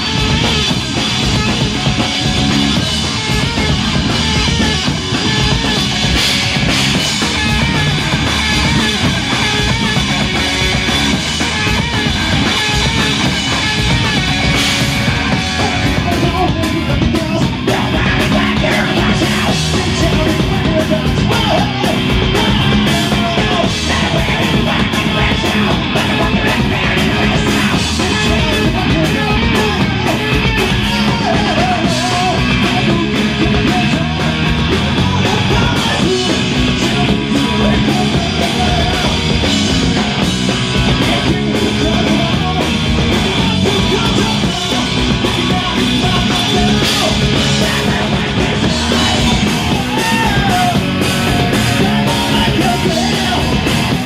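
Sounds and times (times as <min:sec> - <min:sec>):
distorted electric guitars: 0:00.0 - 0:54.0
drum kit: 0:00.0 - 0:54.0
live rock band playing: 0:00.0 - 0:54.0
shouted vocals: 0:00.0 - 0:54.0.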